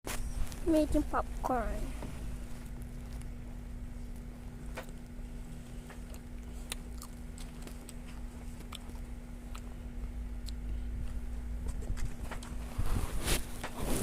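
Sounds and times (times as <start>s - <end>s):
steady hum: 0.1s - 14.0s.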